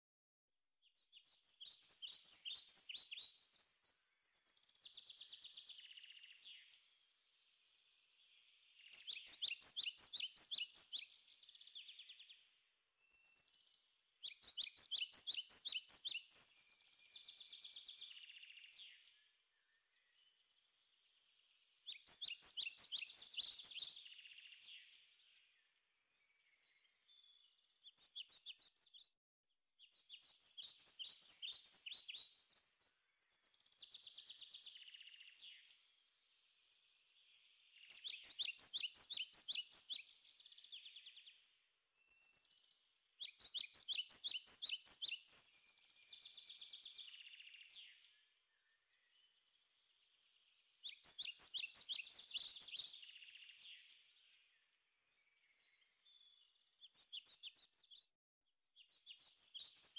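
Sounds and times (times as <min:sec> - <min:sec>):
songbirds chirping: 0:00.8 - 0:29.2, 0:29.8 - 0:58.1, 0:58.8 - 0:59.9.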